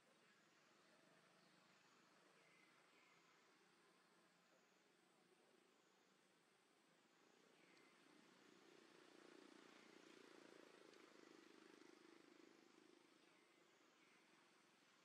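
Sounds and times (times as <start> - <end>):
faint distant engine drone: 0.0 - 15.0.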